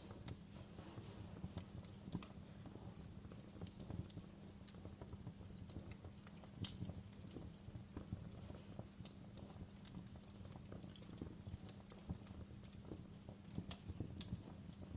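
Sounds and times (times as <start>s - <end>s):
low fire rumble: 0.0s - 14.9s
wood fire crackling and popping: 0.0s - 14.9s.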